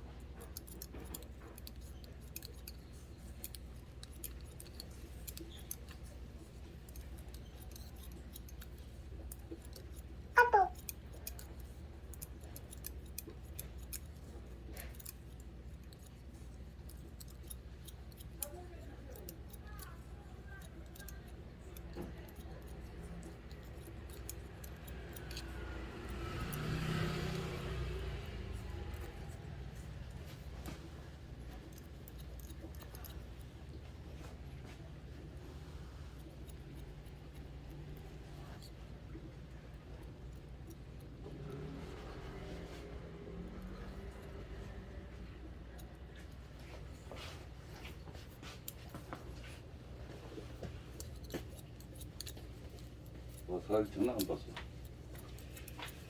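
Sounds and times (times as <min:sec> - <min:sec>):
scissors snipping hair: 0:00.0 - 0:56.0.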